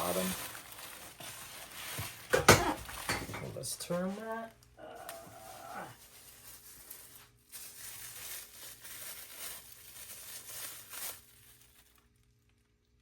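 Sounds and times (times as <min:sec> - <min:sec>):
cardboard and foam packaging rustling: 0:00.0 - 0:12.6.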